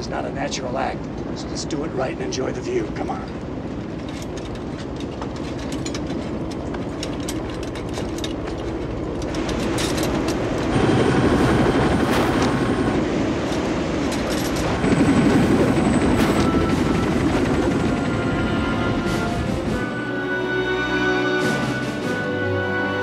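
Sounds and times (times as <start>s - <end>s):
helicopter engine and rotor drone: 0.0s - 22.2s.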